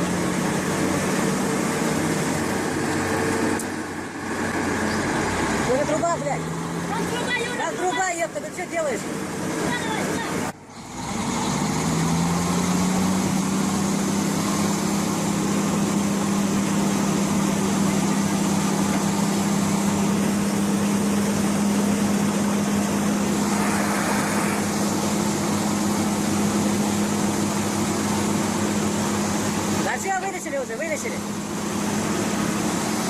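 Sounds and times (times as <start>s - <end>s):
heavy machine engine revving: 0.0s - 33.0s.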